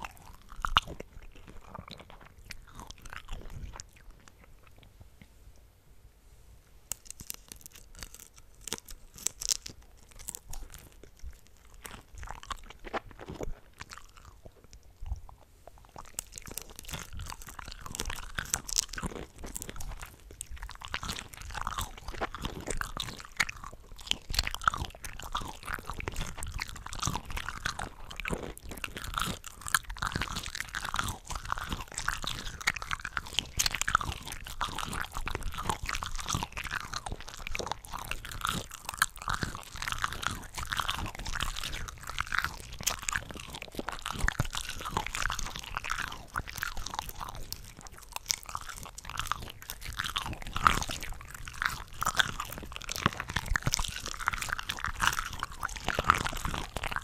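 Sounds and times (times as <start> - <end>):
crunchy chewing and biting: 0.0 - 4.9, 6.9 - 57.0.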